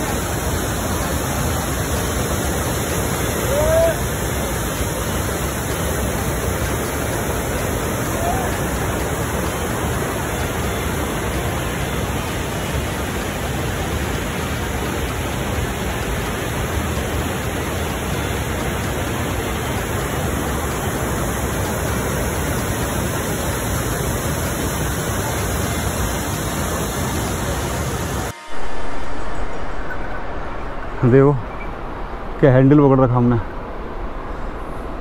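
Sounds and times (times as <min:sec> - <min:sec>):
rushing river roar: 0:00.0 - 0:35.0.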